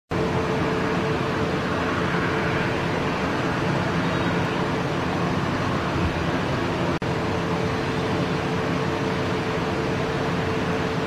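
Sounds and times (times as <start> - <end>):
jet engines taxiing: 0.1 - 11.0.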